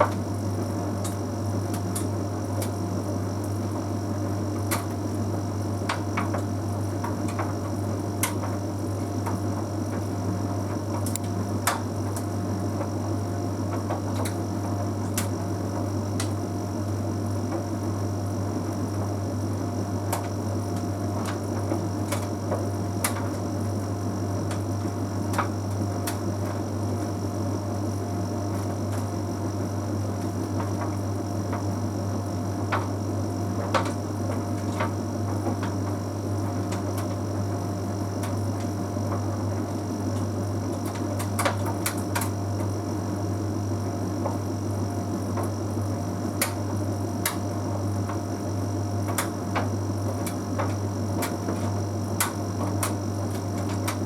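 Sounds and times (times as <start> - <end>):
tumble dryer humming and whining: 0.0 - 54.0.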